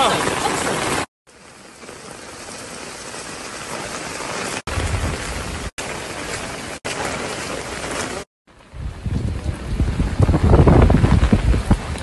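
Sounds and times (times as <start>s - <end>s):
rain splashing on stone paving: 0.0s - 12.0s.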